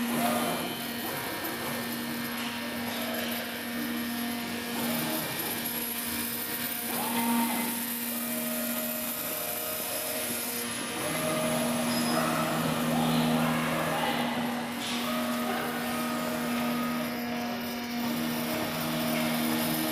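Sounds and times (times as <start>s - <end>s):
cutting machine motor whirring: 0.0s - 19.9s.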